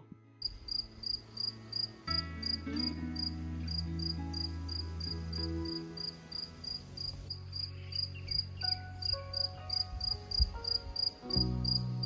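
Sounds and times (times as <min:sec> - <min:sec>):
soft background music: 0:00.0 - 0:12.0
high cricket-like chirp: 0:00.4 - 0:04.8, 0:05.7 - 0:11.8.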